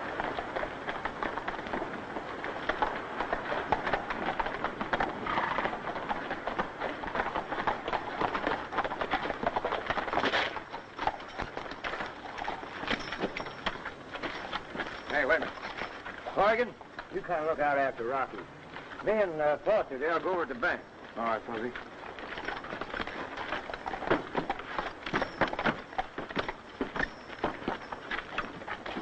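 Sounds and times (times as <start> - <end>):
horses galloping hoofbeats: 0.0 - 29.0.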